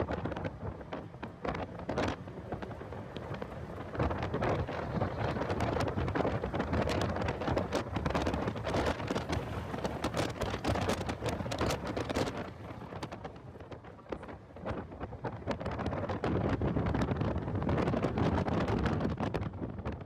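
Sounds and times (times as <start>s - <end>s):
wind buffeting on microphone: 0.0s - 20.0s.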